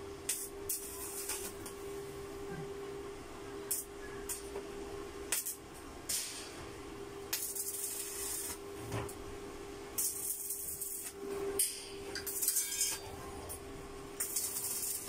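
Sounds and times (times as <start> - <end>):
welding arc hissing and crackling: 0.0 - 2.4, 3.6 - 4.6, 5.2 - 13.1, 14.1 - 15.0.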